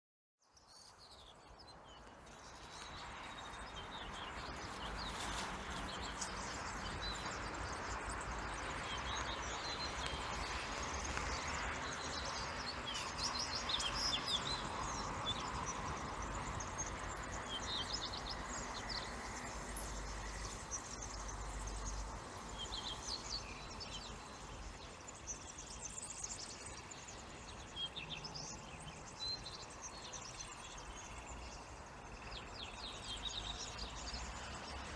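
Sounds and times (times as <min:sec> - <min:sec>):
background road traffic hum: 0:00.4 - 0:34.9.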